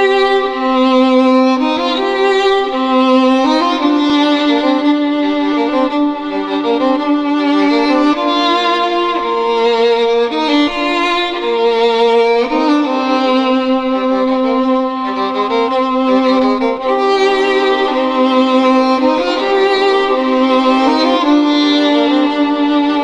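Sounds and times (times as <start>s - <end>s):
violin playing slow held notes: 0.0s - 23.0s.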